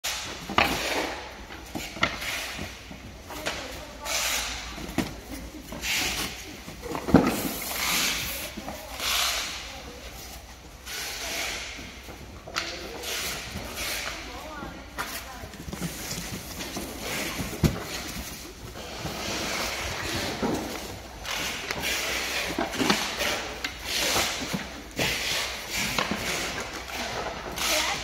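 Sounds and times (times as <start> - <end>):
cardboard and plastic rustling: 0.3 - 28.0.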